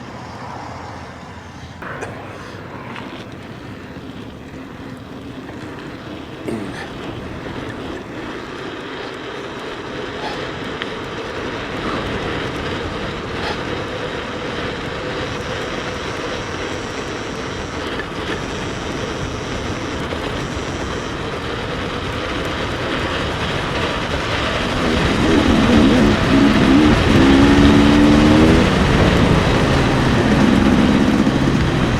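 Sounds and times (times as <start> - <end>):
faint high whine: 0.0 - 31.9
bike rumbling over rough trail: 1.2 - 31.9.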